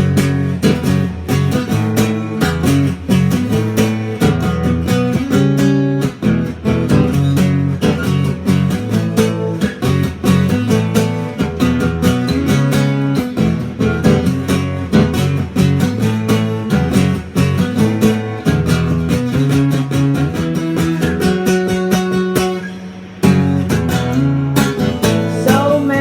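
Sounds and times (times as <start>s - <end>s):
guitar strumming chords: 0.0s - 26.0s.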